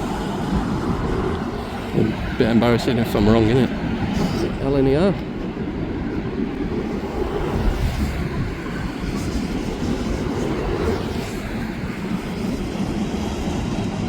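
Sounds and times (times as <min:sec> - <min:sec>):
passenger train passing: 0:00.0 - 0:14.0.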